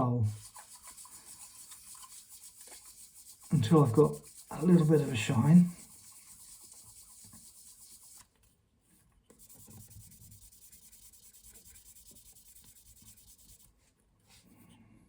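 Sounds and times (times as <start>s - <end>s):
abrasive rubbing on wood: 0.0s - 8.2s, 9.4s - 13.7s.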